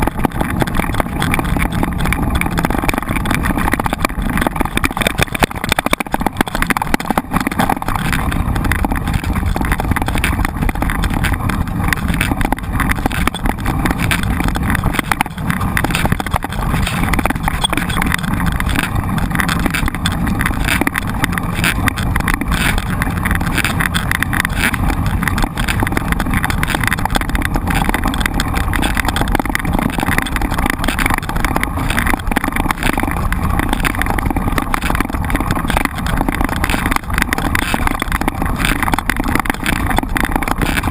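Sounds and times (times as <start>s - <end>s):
bike frame rattle: 0.0s - 40.9s
bike tyre rumble: 0.0s - 40.9s
wind buffeting microphone: 0.0s - 40.9s.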